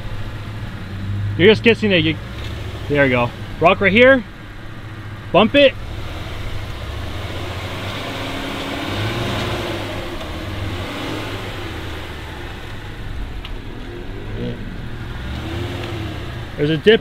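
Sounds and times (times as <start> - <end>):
car engine under light throttle: 0.0 - 17.0.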